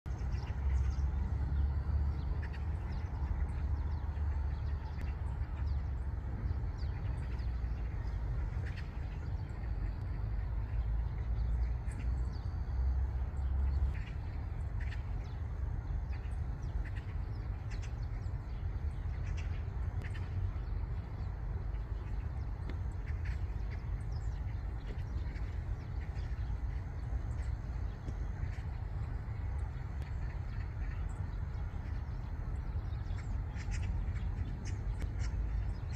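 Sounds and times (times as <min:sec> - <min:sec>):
steady low rumble: 0:00.0 - 0:35.9
sparrows chirping: 0:00.1 - 0:35.9.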